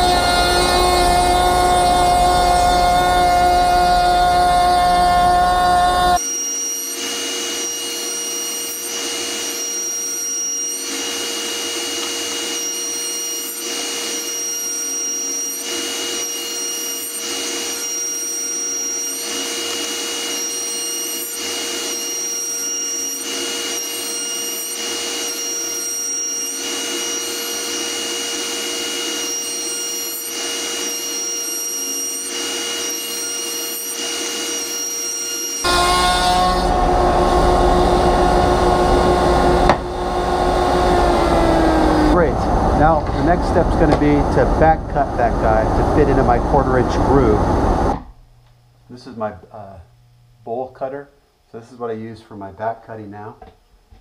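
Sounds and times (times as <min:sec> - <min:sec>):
router cutting wood panels: 0:00.0 - 0:48.2
router bit whining: 0:00.0 - 0:48.6.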